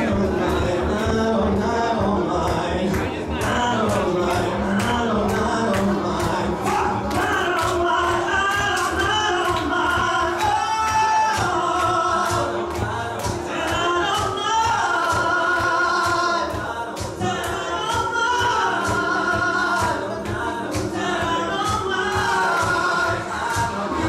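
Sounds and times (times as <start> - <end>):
dance backing track: 0.0 - 24.0
man singing into microphone: 0.0 - 24.0.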